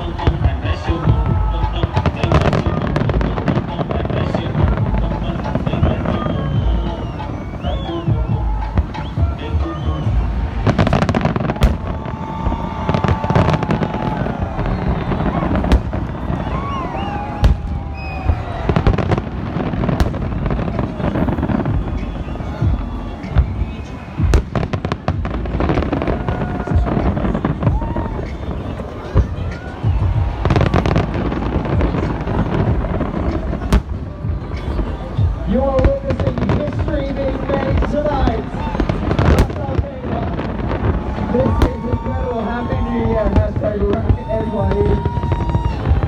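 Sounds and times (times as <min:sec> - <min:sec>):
fireworks bangs and crackling: 0:00.0 - 0:46.0.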